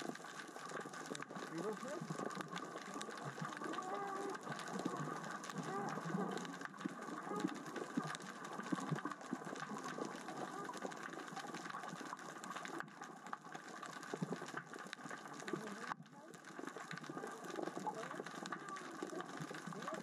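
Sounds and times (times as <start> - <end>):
underwater rocks clicking: 0.0 - 20.0.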